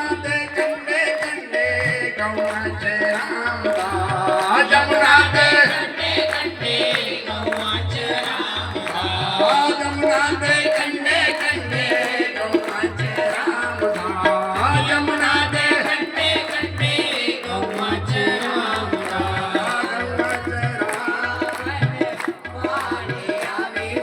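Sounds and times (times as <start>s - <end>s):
tabla rhythm: 0.0s - 24.0s.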